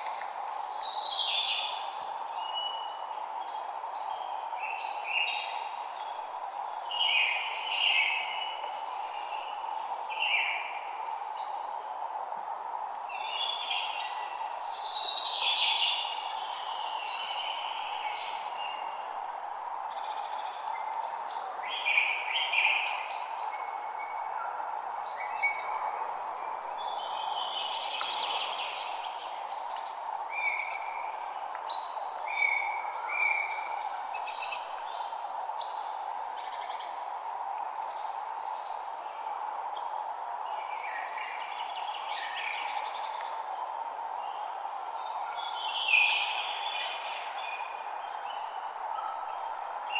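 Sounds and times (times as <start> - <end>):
background hiss: 0.0 - 49.9
songbirds singing: 0.0 - 49.9.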